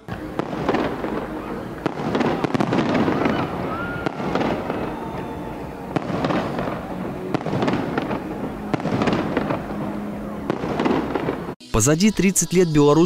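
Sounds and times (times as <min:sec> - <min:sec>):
firework bangs: 0:00.0 - 0:11.6
firework crackling: 0:00.0 - 0:11.6.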